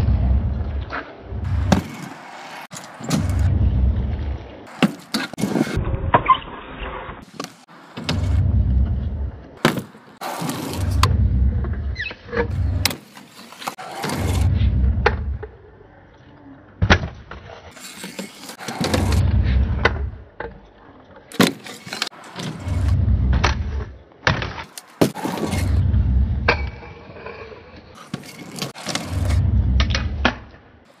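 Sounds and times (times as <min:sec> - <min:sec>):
scooter wheels rolling on concrete: 0:00.1 - 0:05.8, 0:07.2 - 0:15.5, 0:17.7 - 0:20.1, 0:21.2 - 0:24.0, 0:24.6 - 0:31.0.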